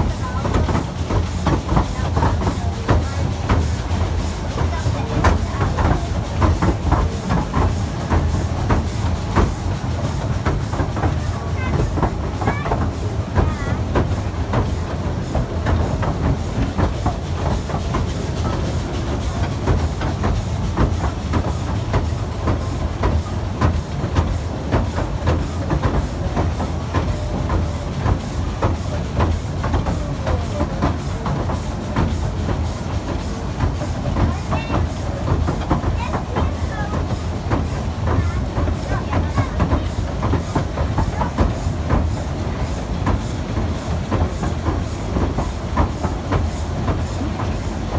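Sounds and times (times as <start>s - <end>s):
train rumbling on track: 0.0s - 47.9s
wheels clicking on rails: 0.0s - 47.9s.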